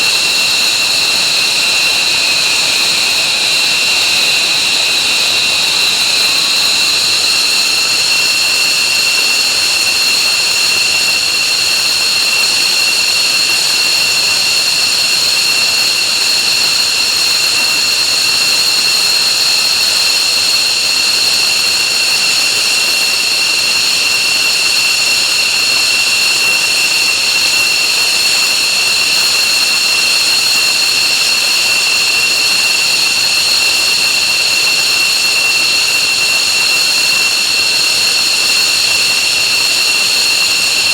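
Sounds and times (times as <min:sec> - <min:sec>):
jet engines whining and roaring: 0:00.0 - 0:40.9.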